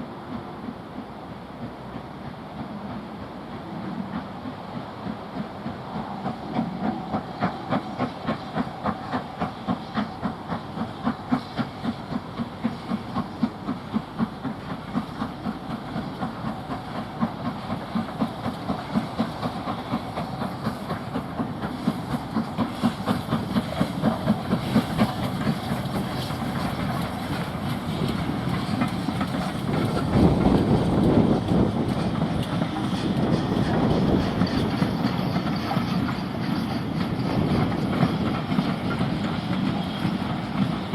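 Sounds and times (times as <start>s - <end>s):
steam locomotive exhaust beats: 0.0s - 40.9s.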